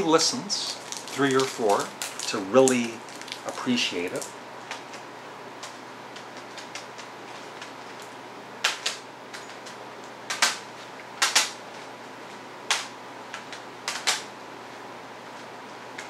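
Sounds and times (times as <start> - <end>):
air conditioner and fan hum: 0.0 - 16.0.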